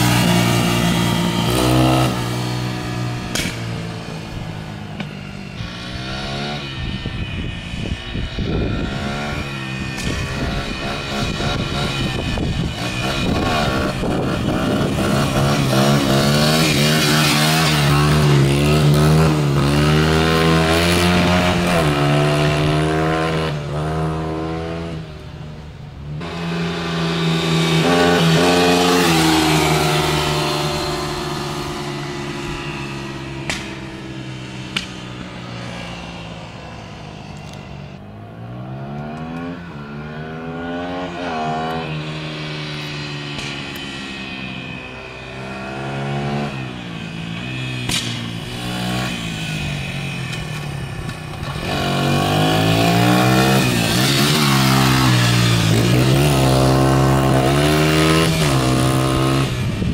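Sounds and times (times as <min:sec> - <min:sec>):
dirt bike engine revving: 0:00.0 - 0:04.6, 0:05.5 - 0:25.1, 0:26.2 - 0:36.5, 0:38.6 - 0:59.9.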